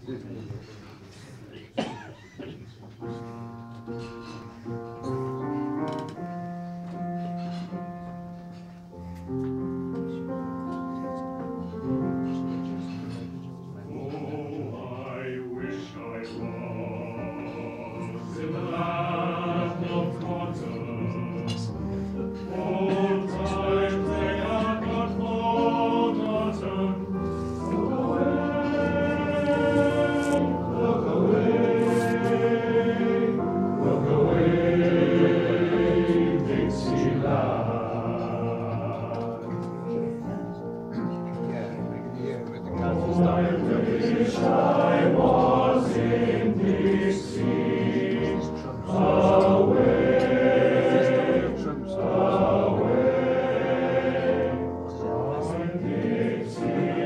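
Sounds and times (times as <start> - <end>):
male choir singing in harmony: 9.6 - 57.0.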